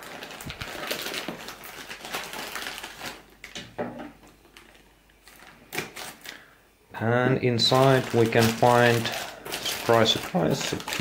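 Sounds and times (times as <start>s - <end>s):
plastic bag crinkling: 0.0s - 3.6s, 4.4s - 6.5s, 7.6s - 11.0s.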